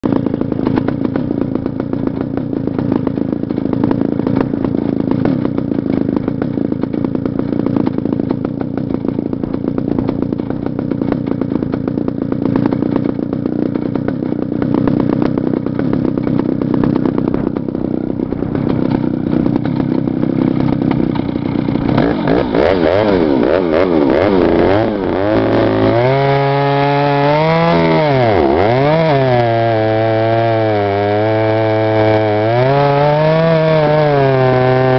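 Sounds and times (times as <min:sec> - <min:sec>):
chainsaw running hard: 0:00.0 - 0:34.9.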